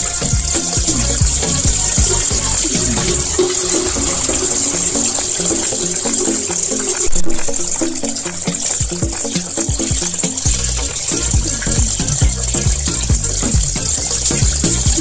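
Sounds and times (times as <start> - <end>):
background music with steady beat: 0.0 - 15.0
tap water running into sink: 0.0 - 15.0.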